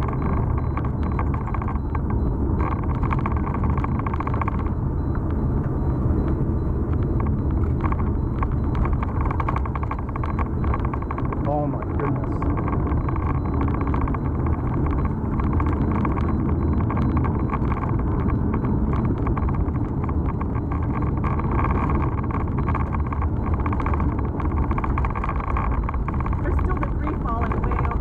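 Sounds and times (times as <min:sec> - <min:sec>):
muffled car road and engine noise: 0:00.0 - 0:28.0.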